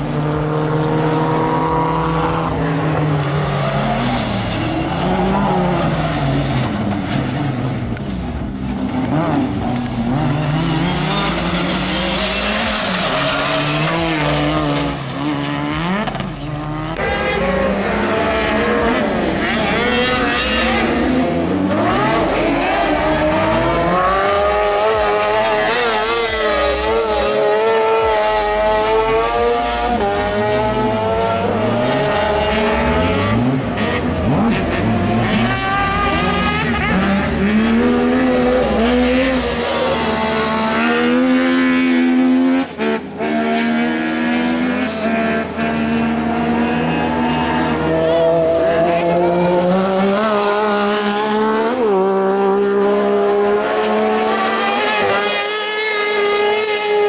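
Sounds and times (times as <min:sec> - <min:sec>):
buggy engines revving: 0:00.0 - 0:57.0.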